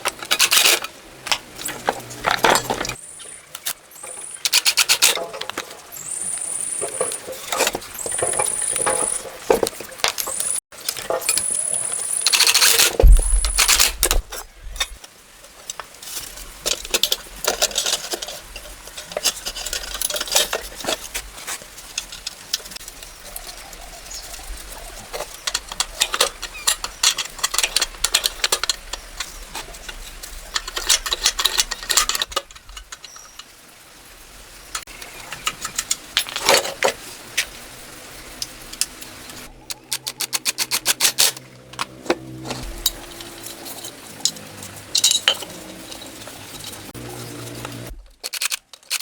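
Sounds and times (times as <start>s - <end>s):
metal tools clinking and scraping: 3.6s - 15.0s, 16.0s - 23.5s, 24.2s - 33.5s, 34.8s - 37.6s, 38.3s - 49.0s.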